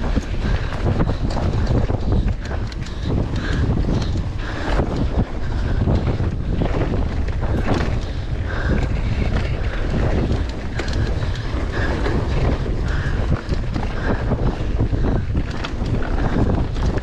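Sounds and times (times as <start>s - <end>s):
bike rattling and knocking: 0.0s - 17.0s
wind rush on microphone: 0.0s - 17.0s.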